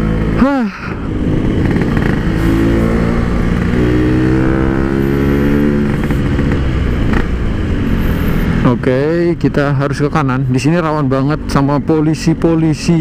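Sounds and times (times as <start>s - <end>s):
quiet motorcycle engine running: 0.0s - 13.0s.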